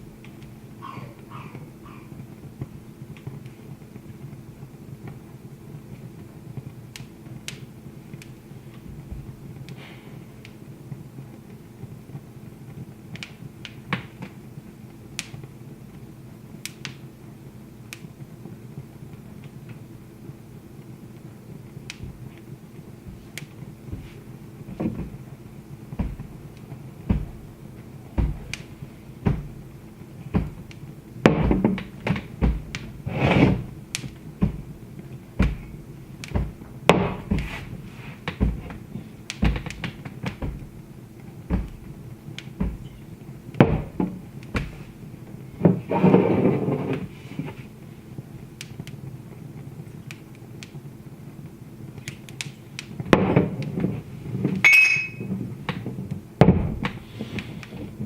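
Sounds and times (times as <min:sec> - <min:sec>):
low steady hum: 0:00.0 - 0:58.0
wood fire crackling: 0:00.0 - 0:58.0.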